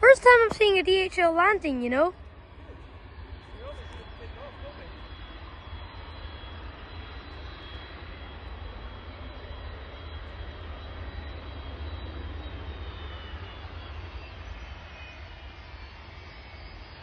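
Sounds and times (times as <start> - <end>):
faint high whine: 0.0 - 17.0
jet engines rumbling: 0.0 - 17.0.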